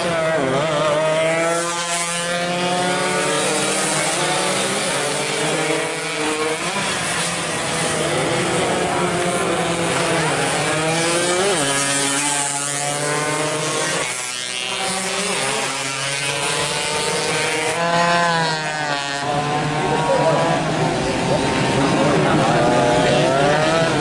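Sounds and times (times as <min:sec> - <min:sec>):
racing motorcycles revving past: 0:00.0 - 0:24.0.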